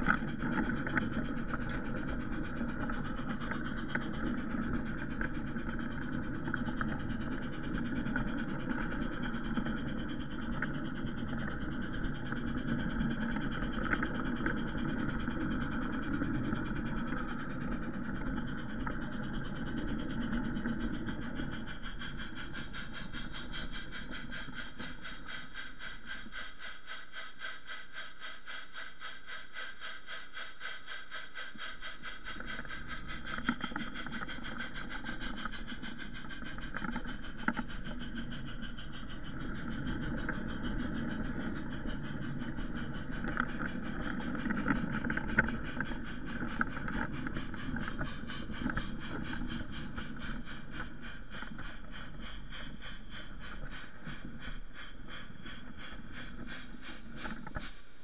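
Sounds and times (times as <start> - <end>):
model train wheels rattling on rails: 0.0 - 58.0.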